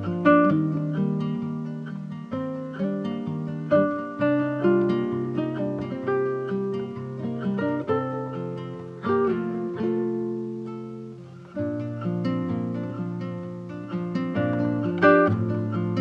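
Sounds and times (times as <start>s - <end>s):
acoustic guitar plucking and strumming: 0.0s - 16.0s.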